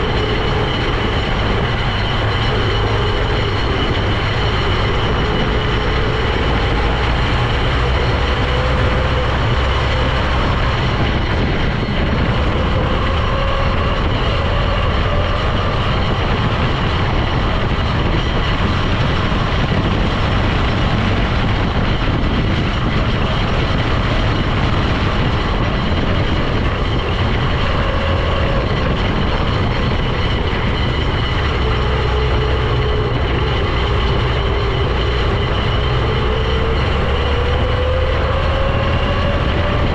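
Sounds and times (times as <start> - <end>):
road noise: 0.0 - 39.9
vehicle engine droning: 0.0 - 39.9.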